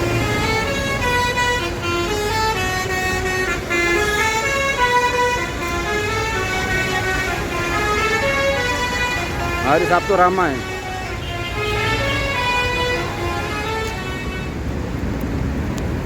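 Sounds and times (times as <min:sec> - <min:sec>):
bus horn playing tune: 0:00.0 - 0:14.7
bus engine running: 0:00.0 - 0:16.0.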